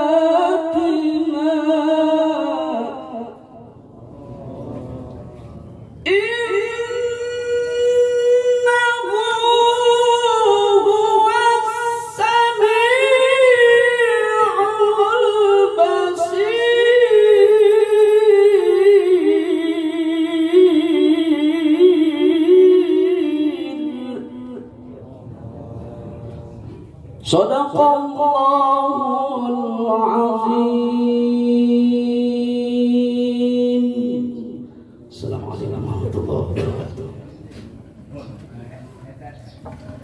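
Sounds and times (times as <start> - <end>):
person reciting melodically: 0.0 - 26.5, 27.2 - 37.3.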